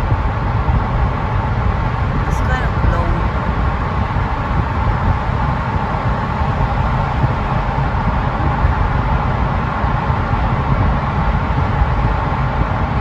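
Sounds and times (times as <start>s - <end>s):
tyres and engine rumbling in car: 0.0s - 13.0s.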